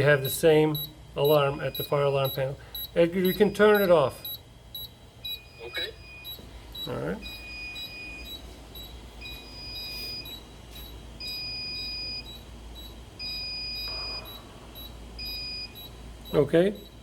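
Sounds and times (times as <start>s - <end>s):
low steady hum: 0.0s - 17.0s
long alarm beeps: 0.2s - 17.0s.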